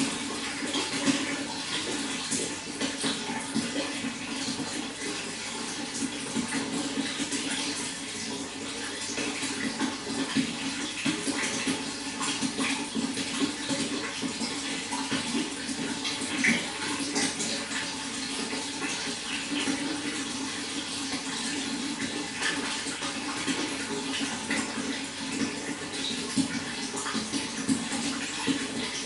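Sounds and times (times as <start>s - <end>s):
running water splashing: 0.0s - 29.0s.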